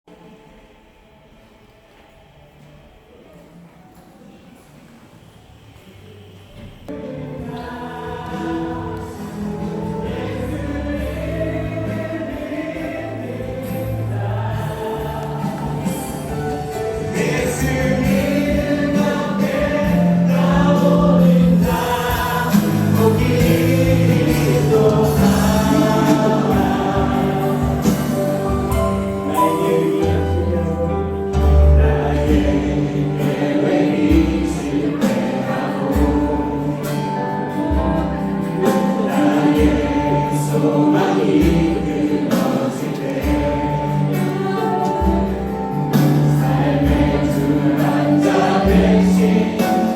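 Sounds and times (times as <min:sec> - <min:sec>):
choir singing gospel song: 0:06.9 - 0:49.9
instrumental accompaniment: 0:06.9 - 0:49.9.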